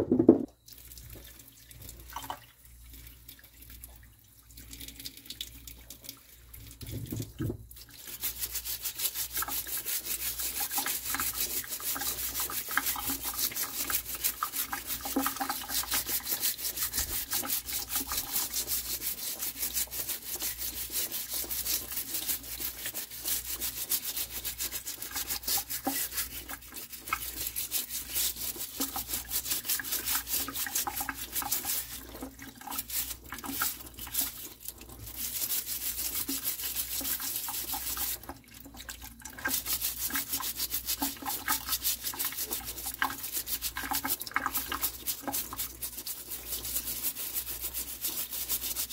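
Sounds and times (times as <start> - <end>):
brush scrubbing vegetables: 5.9 - 48.9.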